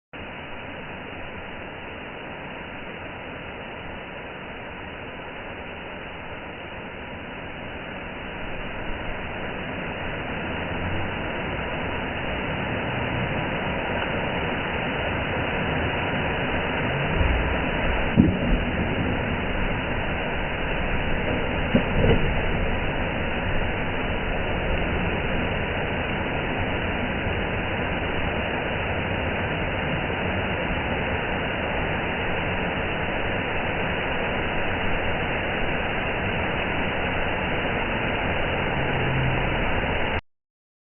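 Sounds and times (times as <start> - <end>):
waterfall rushing: 0.2 - 40.2.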